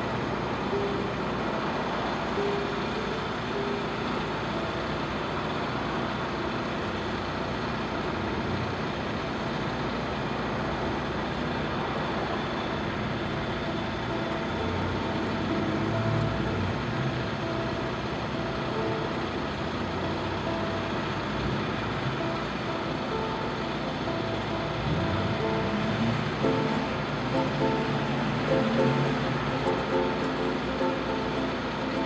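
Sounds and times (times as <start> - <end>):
traffic rumble and hiss: 0.0 - 32.0.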